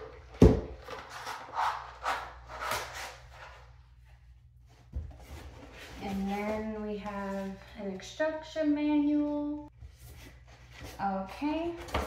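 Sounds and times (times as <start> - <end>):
rustling and handling noises: 0.0 - 8.2, 9.2 - 12.0.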